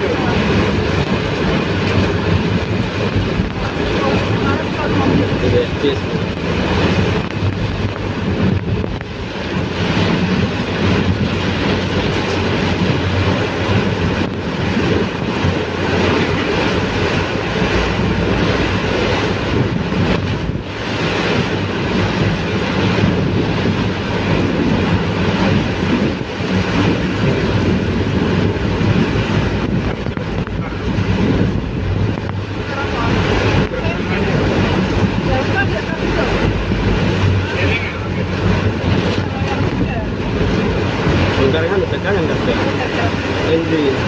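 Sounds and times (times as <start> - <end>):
heavy rain in strong wind: 0.0 - 44.0.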